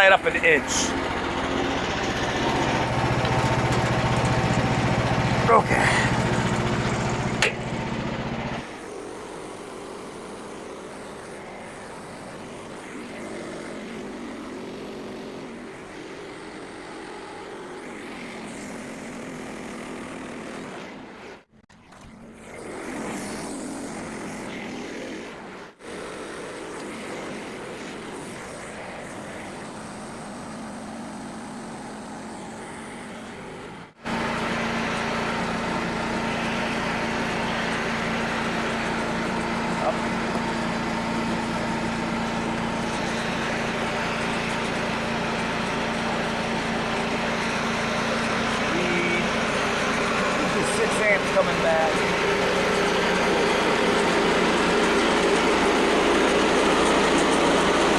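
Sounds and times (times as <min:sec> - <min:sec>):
small gas engine running: 0:00.0 - 0:57.9.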